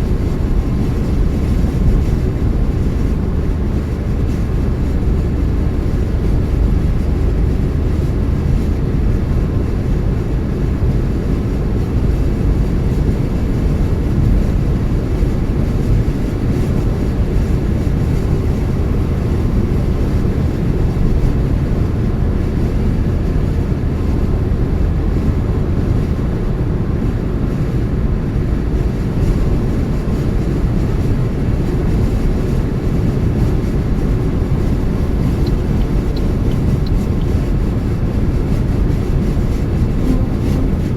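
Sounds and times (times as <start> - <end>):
car driving at speed: 0.0 - 40.9.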